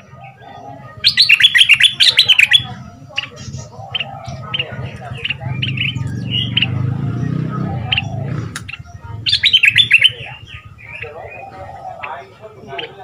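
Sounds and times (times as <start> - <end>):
bulbul singing: 0.0 - 13.0.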